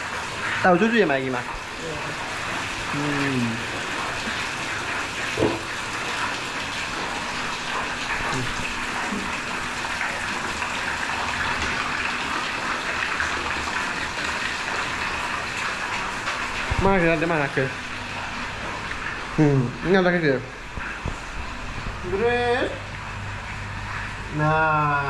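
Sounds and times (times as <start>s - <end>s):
heavy rain falling: 0.0s - 24.9s.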